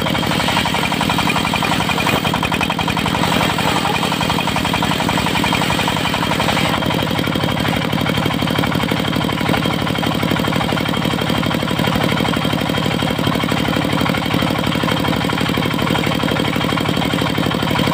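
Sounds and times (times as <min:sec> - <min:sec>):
diesel engine chugging: 0:00.0 - 0:17.9.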